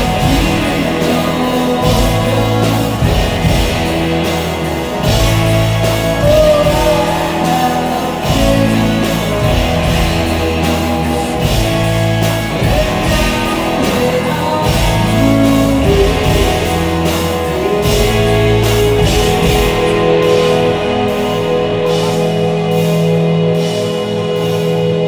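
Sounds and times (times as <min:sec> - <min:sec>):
bass notes: 0:00.0 - 0:25.0
drums and cymbals: 0:00.0 - 0:25.0
electric guitars: 0:00.0 - 0:25.0.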